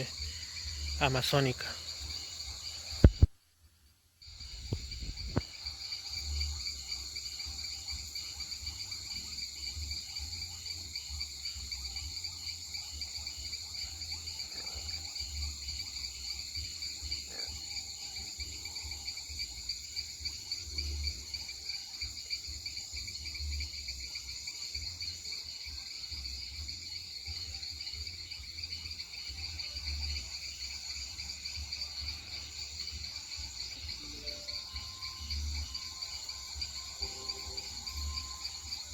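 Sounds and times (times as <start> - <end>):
insects trilling: 0.0 - 3.3, 4.2 - 38.9.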